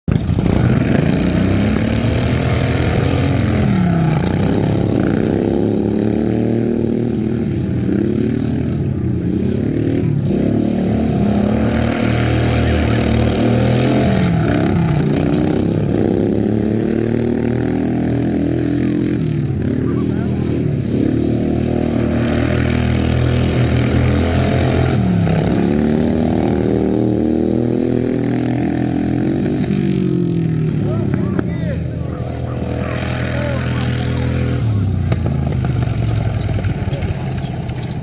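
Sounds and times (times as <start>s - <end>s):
lawn mower engines racing: 0.1s - 38.0s.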